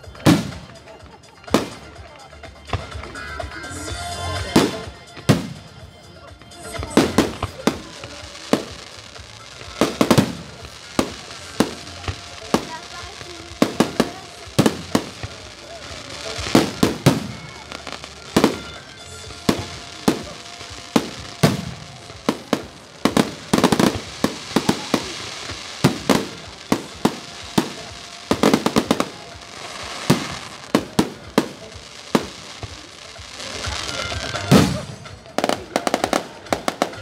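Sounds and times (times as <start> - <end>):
fireworks bursting: 0.0 - 37.0
music playing: 0.0 - 37.0.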